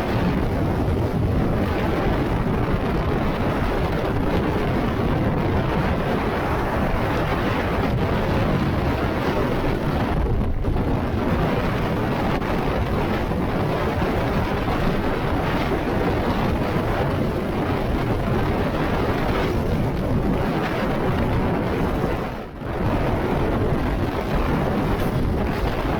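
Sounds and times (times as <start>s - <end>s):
strong wind buffeting microphone: 0.0s - 25.9s.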